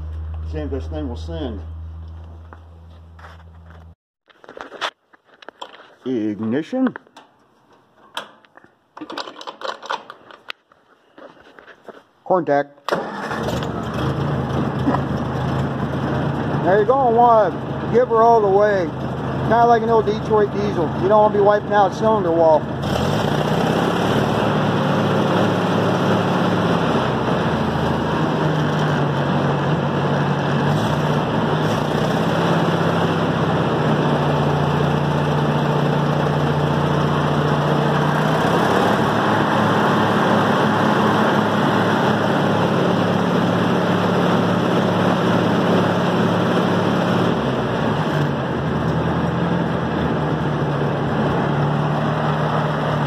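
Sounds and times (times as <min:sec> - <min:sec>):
tractor engine running: 0:00.0 - 0:04.0, 0:12.9 - 0:53.0.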